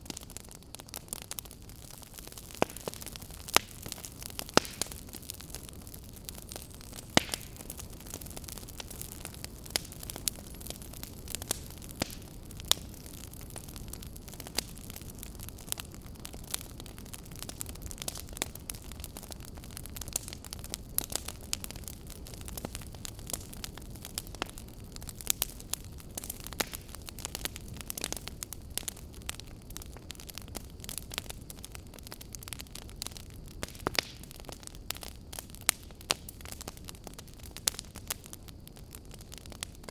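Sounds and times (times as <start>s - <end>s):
logs crackling and popping: 0.0s - 39.9s
low rumble of flame: 0.0s - 39.9s.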